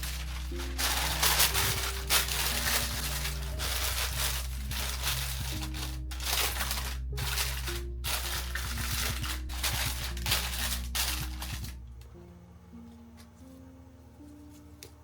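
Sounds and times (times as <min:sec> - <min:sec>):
crinkling rustling handling: 0:00.0 - 0:12.2
soft background music: 0:00.0 - 0:15.0.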